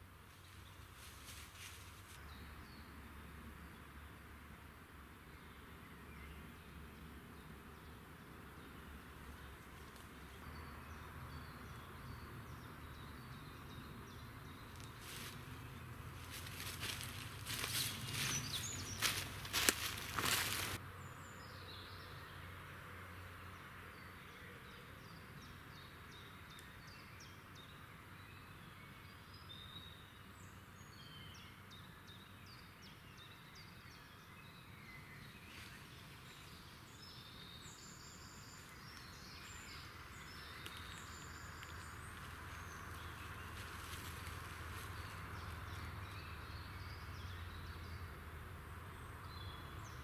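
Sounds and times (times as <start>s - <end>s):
small birds chirping: 5.3s - 22.3s, 24.0s - 48.2s.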